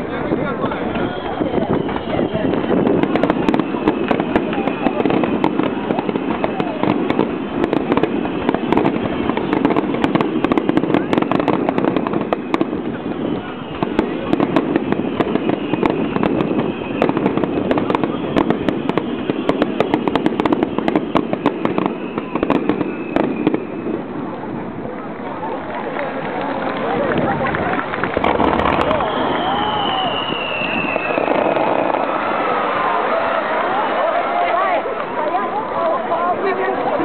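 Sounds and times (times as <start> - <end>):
crowd chatter: 0.0 - 37.0
fireworks crackling and popping: 0.0 - 37.0.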